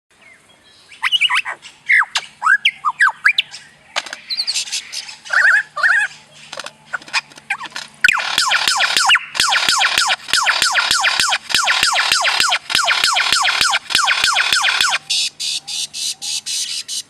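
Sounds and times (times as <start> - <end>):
pet bird chirping and squawking: 1.0 - 17.0.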